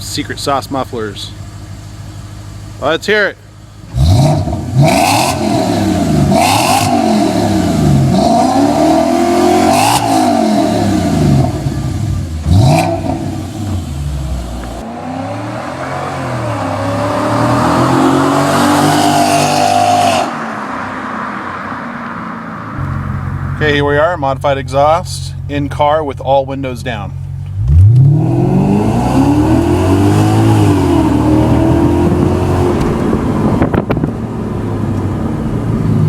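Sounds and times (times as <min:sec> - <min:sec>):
car engine revving: 0:03.6 - 0:25.8, 0:27.2 - 0:36.0.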